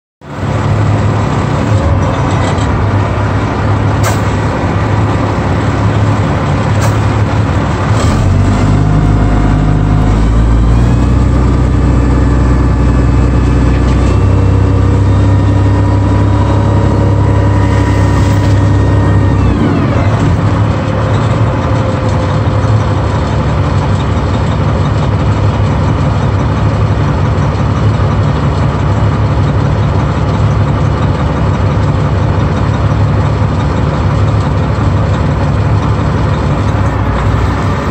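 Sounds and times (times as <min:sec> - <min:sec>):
diesel truck engine under load: 0:00.2 - 0:37.9.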